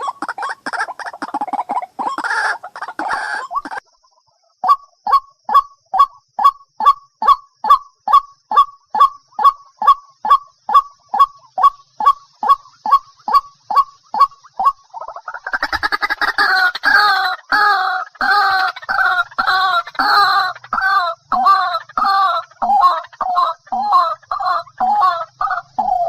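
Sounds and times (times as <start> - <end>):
waterhen calling: 0.0 - 3.8, 8.1 - 26.0.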